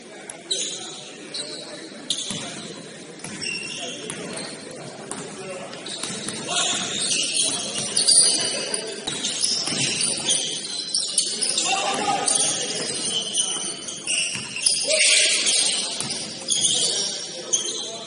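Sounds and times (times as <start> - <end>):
voices: 0.1 - 18.0
shoes squeaking on gym floor: 0.4 - 18.0.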